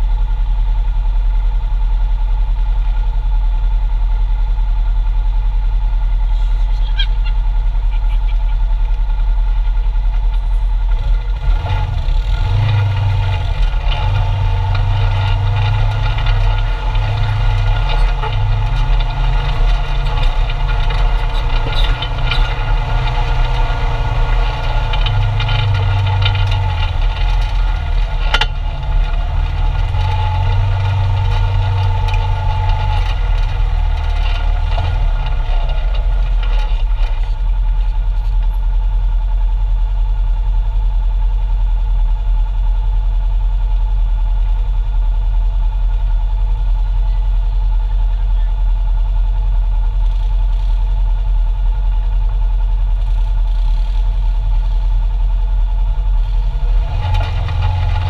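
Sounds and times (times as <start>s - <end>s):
engine running at low speed: 0.0s - 58.0s.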